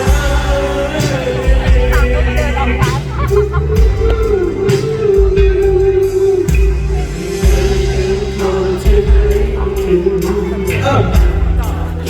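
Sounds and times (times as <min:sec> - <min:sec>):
live pop band music: 0:00.0 - 0:12.0.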